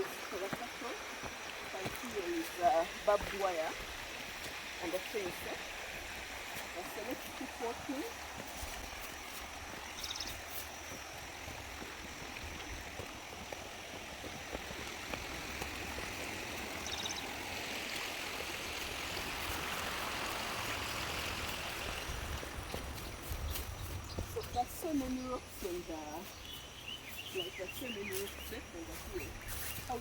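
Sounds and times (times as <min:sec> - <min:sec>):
stream water rushing: 0:00.0 - 0:25.7.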